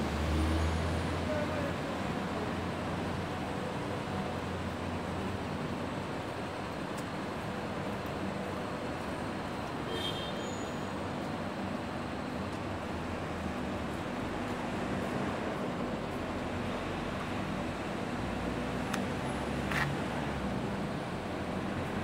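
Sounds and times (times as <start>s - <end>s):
traffic-like hiss: 0.0s - 22.0s.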